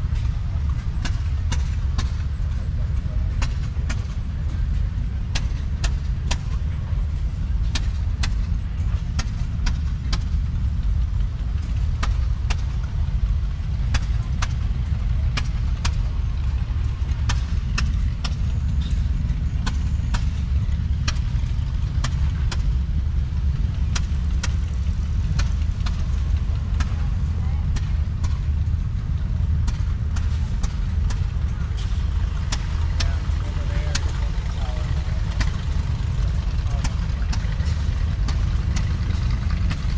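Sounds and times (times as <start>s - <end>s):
engine rumbling steadily: 0.0s - 39.9s.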